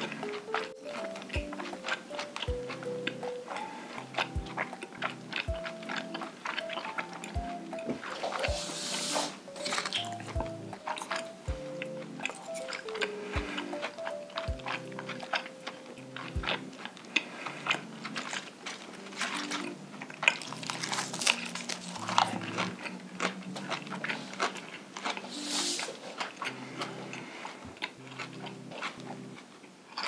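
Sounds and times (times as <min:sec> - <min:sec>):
close chewing with mouth clicks: 0:00.0 - 0:30.0.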